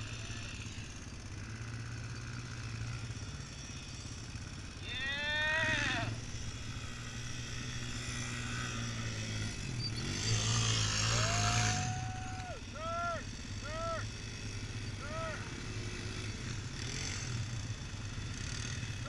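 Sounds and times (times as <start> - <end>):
quad engine idling: 0.0 - 19.0
quad riding past: 0.0 - 19.0.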